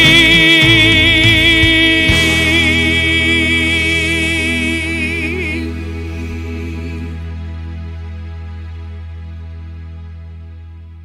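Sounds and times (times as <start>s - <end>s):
sustained backing chord: 0.0s - 11.0s.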